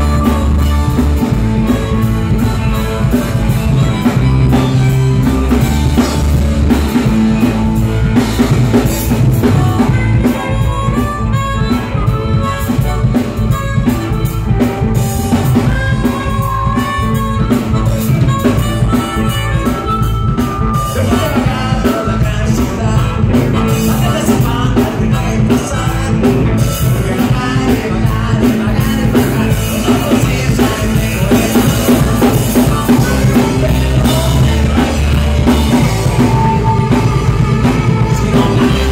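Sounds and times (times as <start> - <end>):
live blues-rock band: 0.0 - 38.9.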